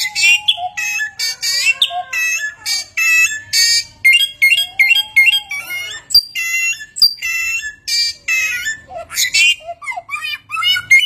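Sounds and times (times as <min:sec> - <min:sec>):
songbird whistling and chirping: 0:00.0 - 0:11.0.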